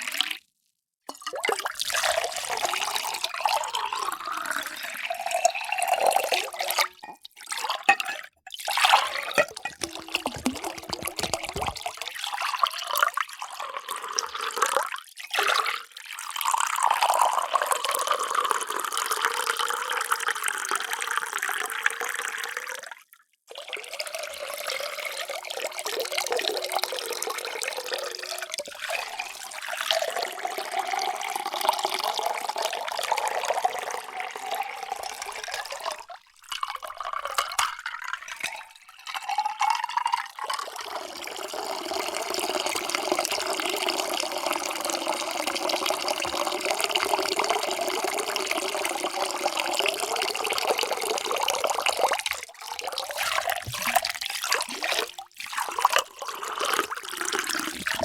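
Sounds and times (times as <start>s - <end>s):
water pouring into a vessel: 1.1s - 58.0s.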